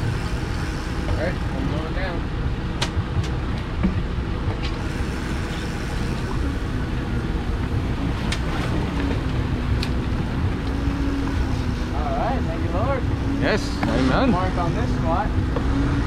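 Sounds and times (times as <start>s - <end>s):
boat engine rumble: 0.0s - 16.0s
steady hum: 0.0s - 16.0s.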